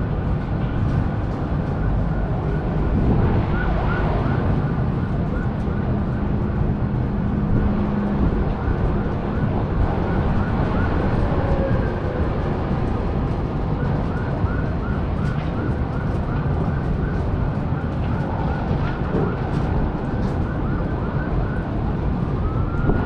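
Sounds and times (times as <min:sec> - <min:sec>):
city traffic rumble: 0:00.0 - 0:23.0
wind: 0:00.0 - 0:23.0
distant siren yelping: 0:01.5 - 0:23.0.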